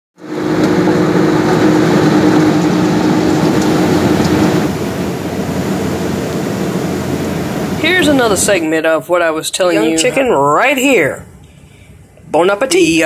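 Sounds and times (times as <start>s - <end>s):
fan noise: 0.2s - 13.0s
microwave oven hum: 0.2s - 13.0s.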